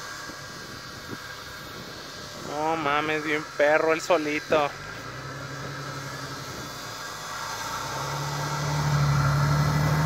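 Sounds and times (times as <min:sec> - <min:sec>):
car engine under load: 0:00.0 - 0:10.0.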